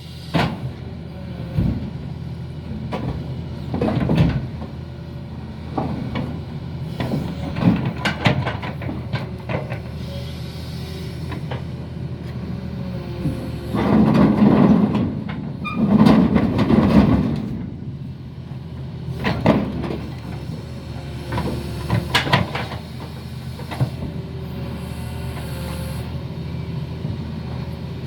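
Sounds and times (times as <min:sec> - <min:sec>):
excavator diesel engine: 0:00.0 - 0:28.0.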